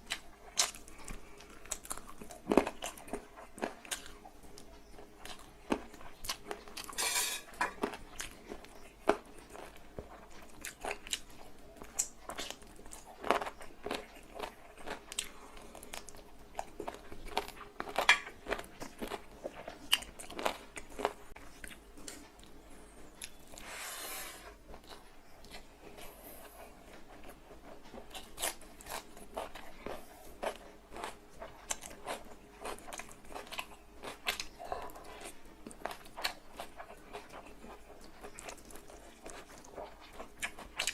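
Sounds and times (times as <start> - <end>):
person chewing and crunching: 0.0 - 23.7, 24.6 - 40.9.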